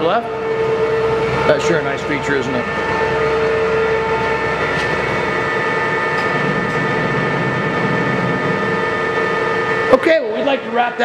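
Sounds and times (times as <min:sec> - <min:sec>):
lathe hum and whine: 0:00.0 - 0:11.0.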